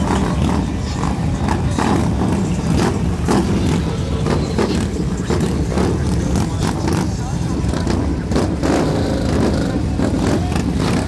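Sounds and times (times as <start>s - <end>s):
motorcycles rolling past: 0.0s - 11.0s.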